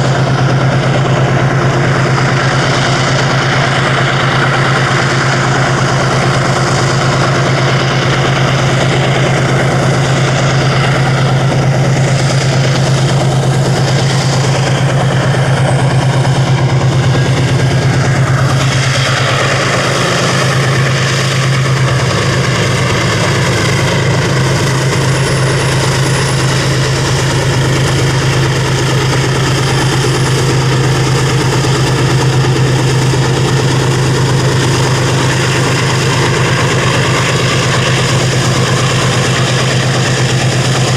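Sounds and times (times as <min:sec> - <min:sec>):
loud mechanical motor hum: 0:00.0 - 0:40.9.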